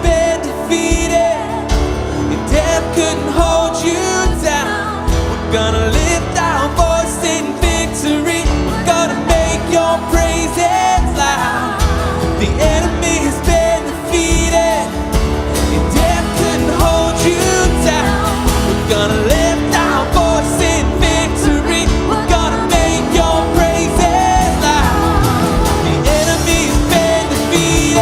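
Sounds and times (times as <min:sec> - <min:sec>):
voices singing: 0:00.0 - 0:28.0
worship band playing: 0:00.0 - 0:28.0.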